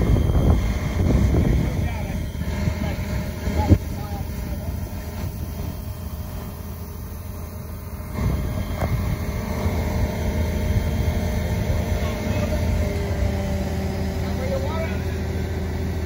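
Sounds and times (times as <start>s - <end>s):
heavy engine droning: 0.0s - 16.0s.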